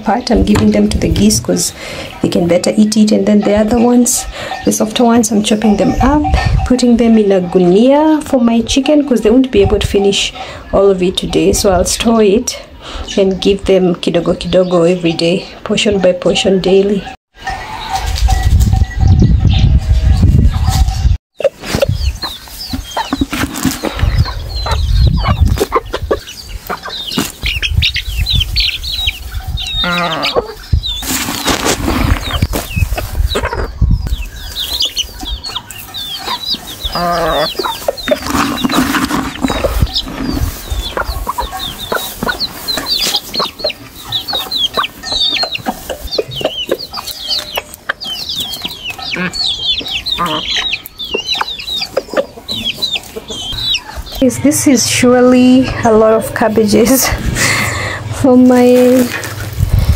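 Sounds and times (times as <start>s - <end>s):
hens clucking: 0.0s - 18.1s, 20.5s - 59.9s
chicks peeping: 0.0s - 59.9s.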